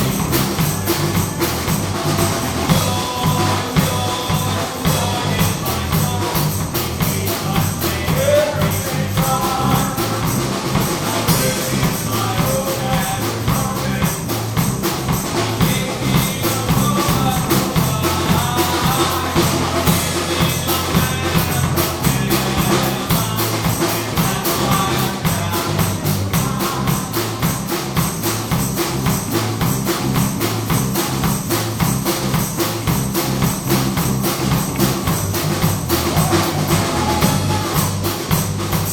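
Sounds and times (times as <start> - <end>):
people singing: 0.0 - 28.7, 32.9 - 38.9
bass line: 0.0 - 38.9
drums and tambourine beat: 0.0 - 38.9.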